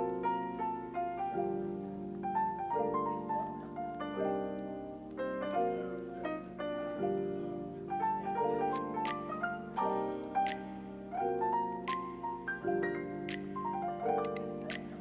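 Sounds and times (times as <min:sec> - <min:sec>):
gentle piano notes: 0:00.0 - 0:15.0.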